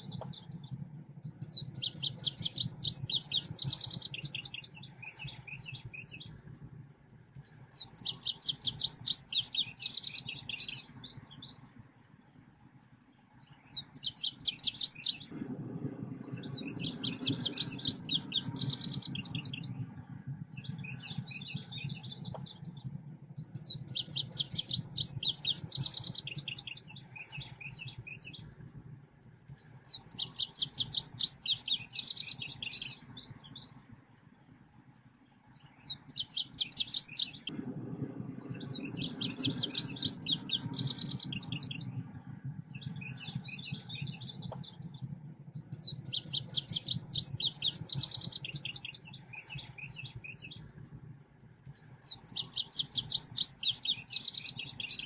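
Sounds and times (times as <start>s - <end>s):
faint low hum: 0.0s - 55.0s
recorded bird chirping bursts: 0.0s - 55.0s.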